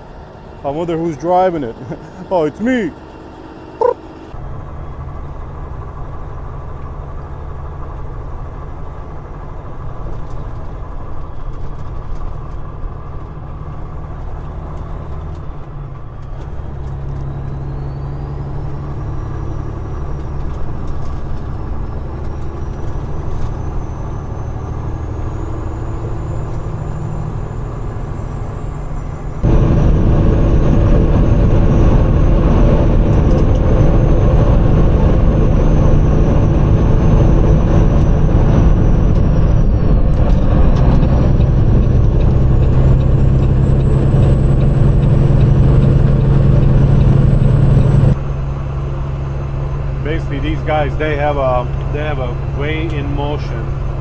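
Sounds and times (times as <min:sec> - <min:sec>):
truck diesel engine shifting gears: 0:00.0 - 0:54.0.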